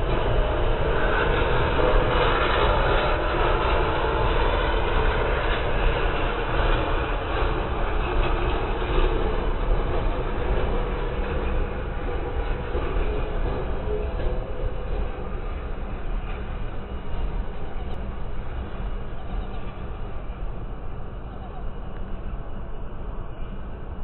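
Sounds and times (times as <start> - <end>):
freight train passing on rails: 0.0 - 24.0.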